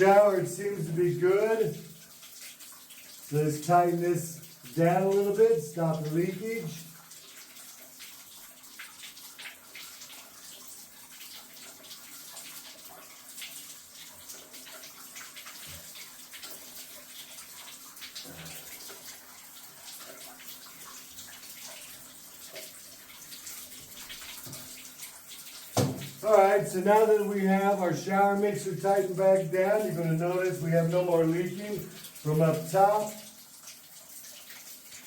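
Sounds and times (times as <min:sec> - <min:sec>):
water running from shower: 0:00.0 - 0:35.0.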